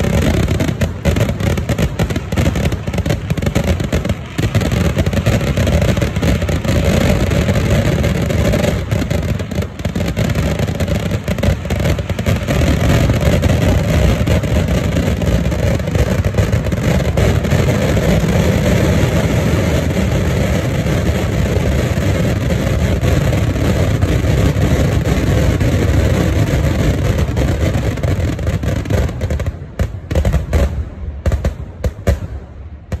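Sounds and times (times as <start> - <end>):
firecracker explosions: 0.0 - 33.0.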